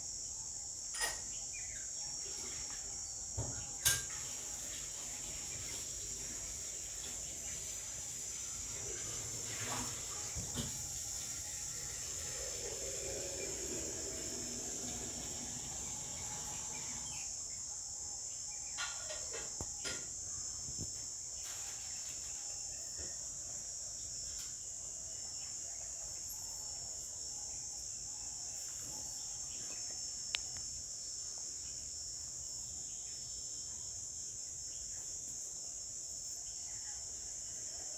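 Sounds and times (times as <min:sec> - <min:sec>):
insect chorus chirring: 0:00.0 - 0:37.9.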